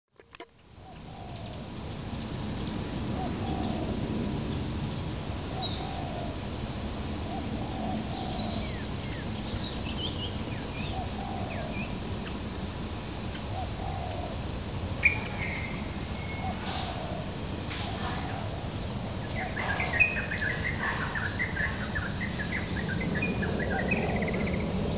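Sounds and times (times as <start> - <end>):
small birds twittering: 0.7 - 4.8, 5.4 - 12.6, 13.2 - 24.9
steady low rumble: 0.7 - 24.9
doves cooing: 0.8 - 1.8, 2.7 - 4.6, 5.4 - 12.3, 13.2 - 24.9.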